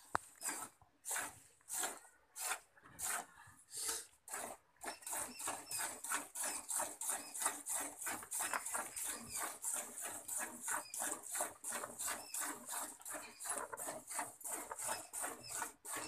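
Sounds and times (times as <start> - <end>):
milk squirting into a bucket: 0.1 - 16.0.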